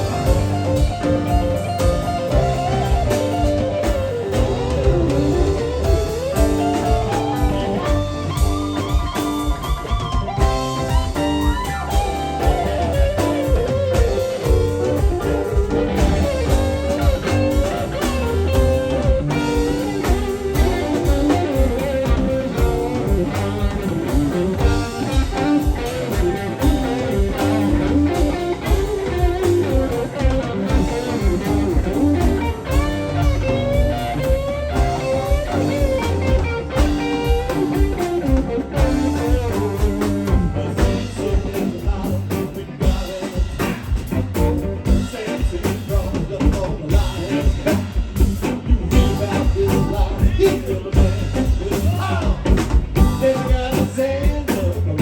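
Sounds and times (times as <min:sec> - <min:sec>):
electric guitar lead: 0:00.0 - 0:55.0
rock band playing: 0:00.0 - 0:55.0.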